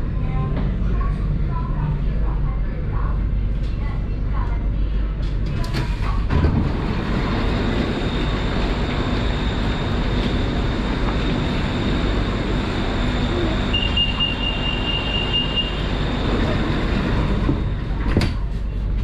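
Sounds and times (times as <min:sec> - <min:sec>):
train wheels and motors rumbling: 0:00.0 - 0:19.0.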